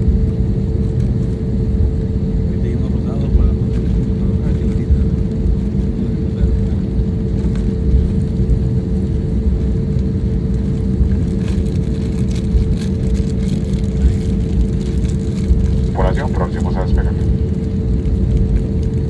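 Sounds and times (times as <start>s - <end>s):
airliner engines rumbling: 0.0s - 19.0s
steady cabin hum: 0.0s - 19.0s.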